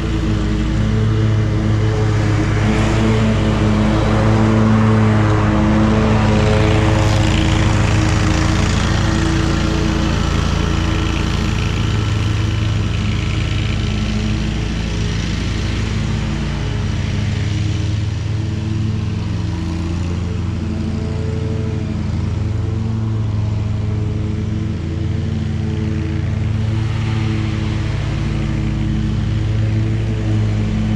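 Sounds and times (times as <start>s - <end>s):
riding mower engine running: 0.0s - 30.9s.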